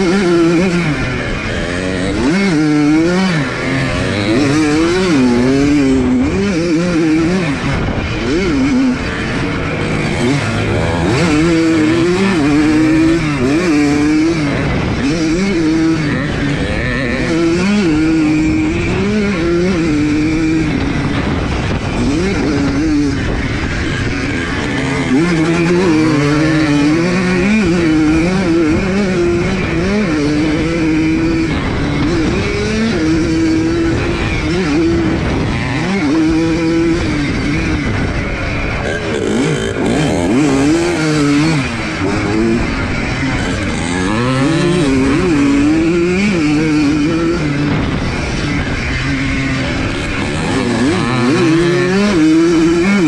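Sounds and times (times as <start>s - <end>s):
two-stroke motorcycle engine revving: 0.0s - 53.0s.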